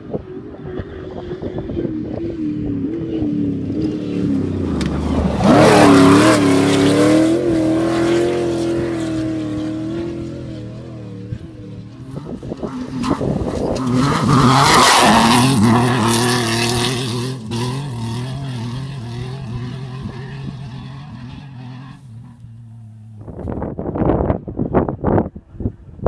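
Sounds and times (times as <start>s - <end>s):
race vehicle engine passing: 0.0s - 23.5s.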